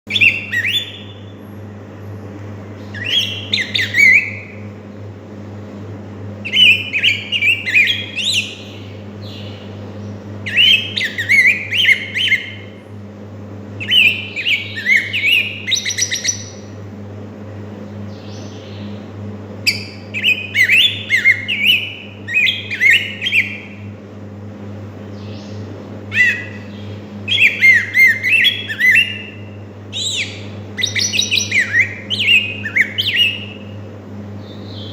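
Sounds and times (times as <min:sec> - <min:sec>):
bird singing warbled phrases: 0:00.1 - 0:01.8, 0:02.6 - 0:05.2, 0:06.3 - 0:13.1, 0:13.7 - 0:17.0, 0:17.7 - 0:24.0, 0:24.8 - 0:34.9.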